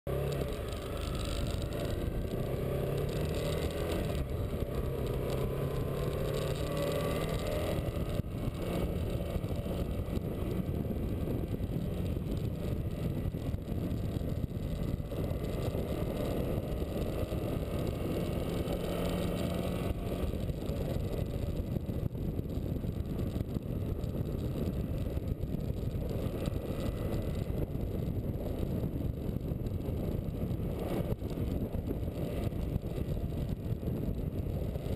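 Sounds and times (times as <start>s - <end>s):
motorcycle engine running: 0.1s - 34.9s
wind noise on microphone: 0.1s - 34.9s.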